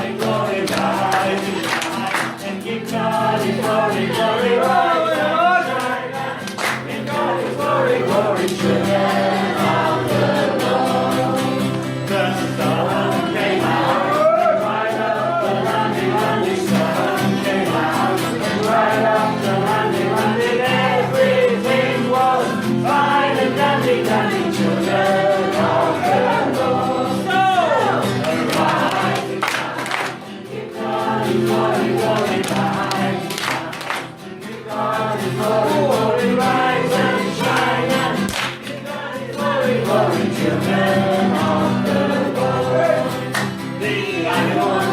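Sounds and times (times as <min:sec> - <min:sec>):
group of voices singing: 0:00.0 - 0:44.9.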